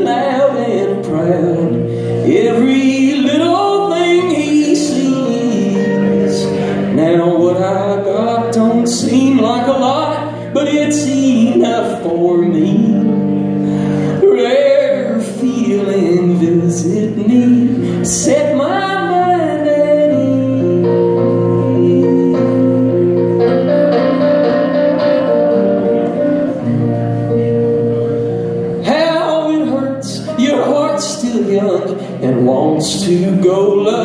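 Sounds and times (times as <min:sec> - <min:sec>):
electric guitar: 0:00.0 - 0:34.0.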